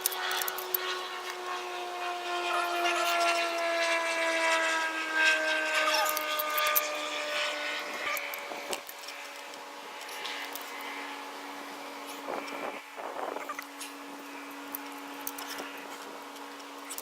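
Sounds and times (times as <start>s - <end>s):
steady hum with overtones: 0.0s - 17.0s.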